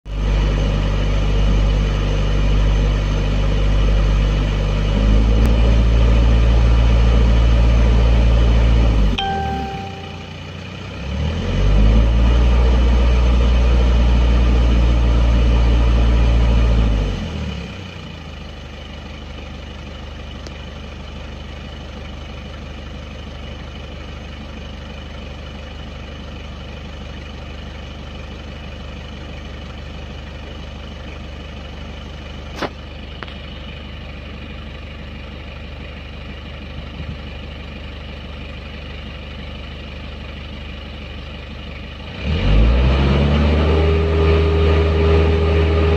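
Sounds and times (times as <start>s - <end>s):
car engine idling unevenly: 0.1s - 11.3s, 12.3s - 42.2s.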